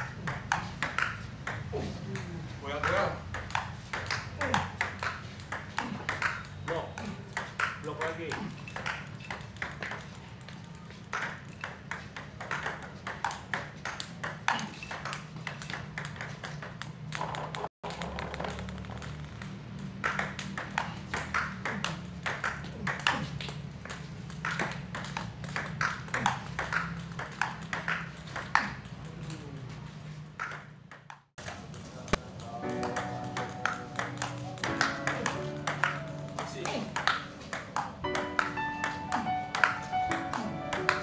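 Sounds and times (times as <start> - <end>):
ball bouncing on table: 0.0 - 29.0, 30.4 - 31.8, 32.8 - 41.0
table tennis ball clicking off paddles: 0.0 - 41.0.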